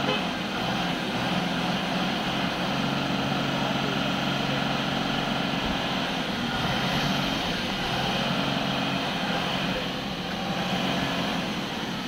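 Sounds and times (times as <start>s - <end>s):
lorry diesel engine droning: 0.0s - 12.0s.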